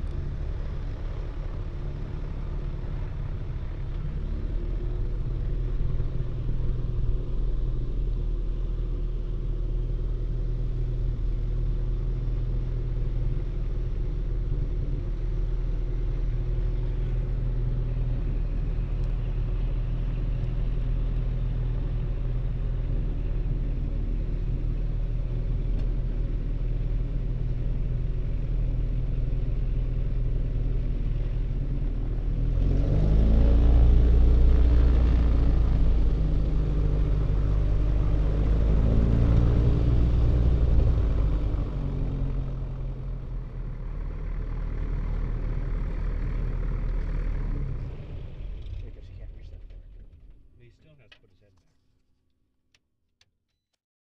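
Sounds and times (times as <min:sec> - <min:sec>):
light aircraft engine and propeller: 0:00.0 - 0:51.3.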